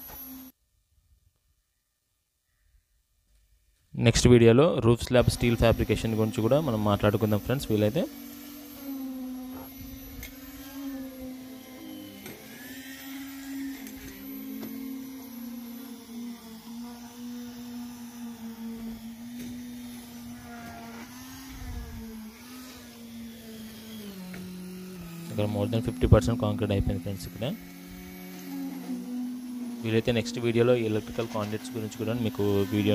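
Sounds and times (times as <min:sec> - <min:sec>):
concrete vibrator humming: 0:04.9 - 0:32.9.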